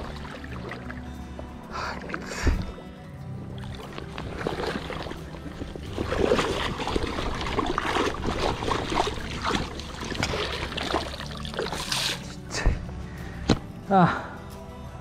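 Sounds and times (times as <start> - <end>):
stream water splashing: 0.0 - 12.9.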